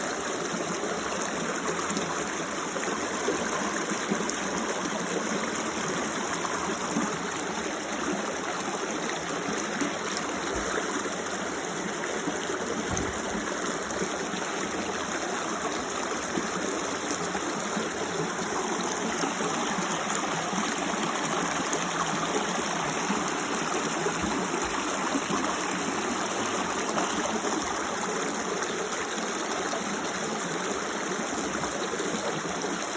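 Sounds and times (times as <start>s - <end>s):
creek water over rocks: 0.0s - 32.9s.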